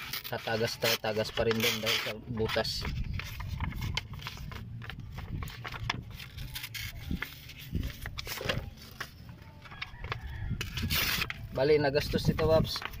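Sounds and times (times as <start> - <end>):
steady low rumble: 2.2 - 13.0.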